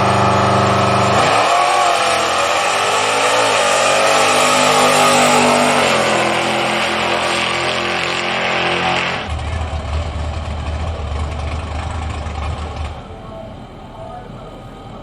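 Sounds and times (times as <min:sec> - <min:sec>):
race engine at high revs: 0:00.0 - 0:12.9
low drone: 0:00.0 - 0:15.0.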